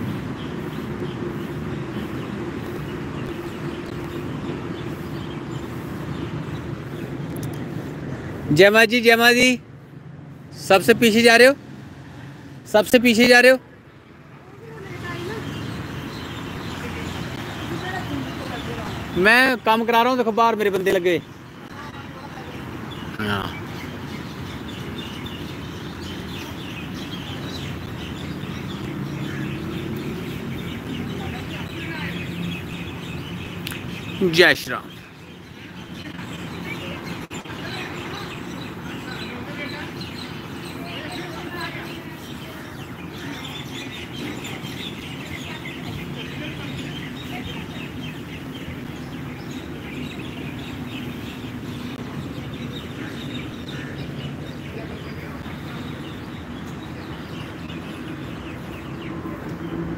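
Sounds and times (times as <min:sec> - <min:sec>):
road traffic rumble: 0:00.0 - 0:59.9
small birds chirping: 0:00.0 - 0:59.9
steady engine hum: 0:00.0 - 0:59.9.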